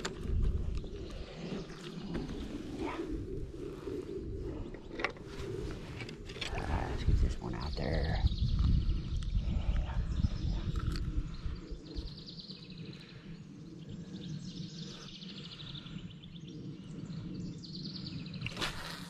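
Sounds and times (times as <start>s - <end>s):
low rumble: 0.0s - 17.6s.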